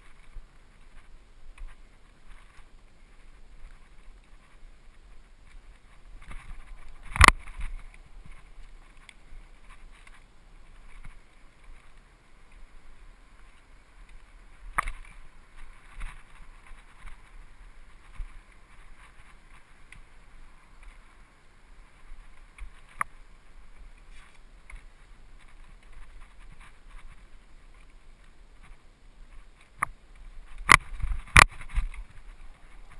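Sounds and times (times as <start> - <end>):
bike rattles and clacks: 0.0 - 21.2, 21.9 - 32.9
bike tyres rolling on dirt: 0.0 - 32.9.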